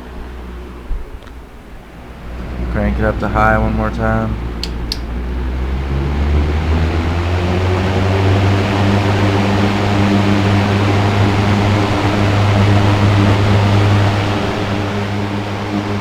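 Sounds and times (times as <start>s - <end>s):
box fan running: 0.0s - 16.0s.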